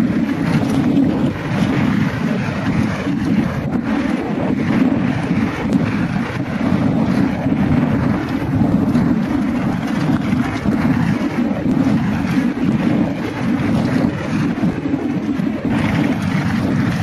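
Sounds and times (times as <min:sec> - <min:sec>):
bike rattling over rough trail: 0:00.0 - 0:17.0
wind buffeting microphone: 0:00.0 - 0:17.0.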